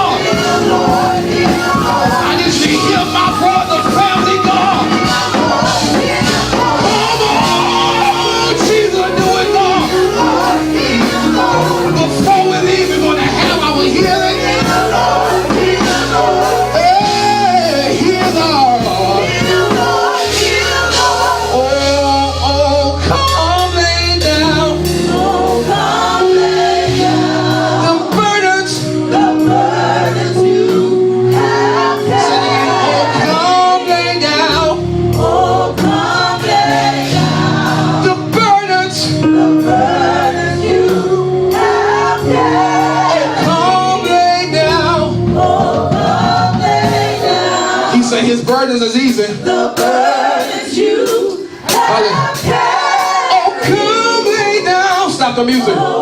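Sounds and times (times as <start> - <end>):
bass: 0.0 - 56.0
drums: 0.0 - 56.0
keyboard chords: 0.0 - 56.0
singers with a choir: 0.0 - 56.0.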